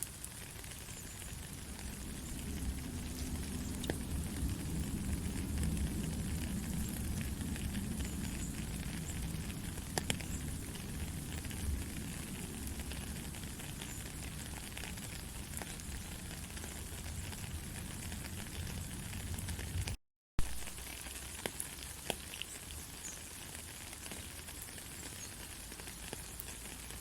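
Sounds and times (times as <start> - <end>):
steady rain hiss and patter: 0.0 - 27.0.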